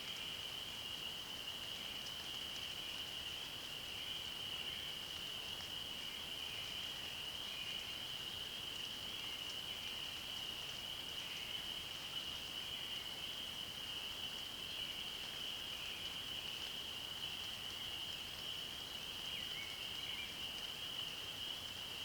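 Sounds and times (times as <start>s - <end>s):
faint background hiss: 0.0s - 22.0s.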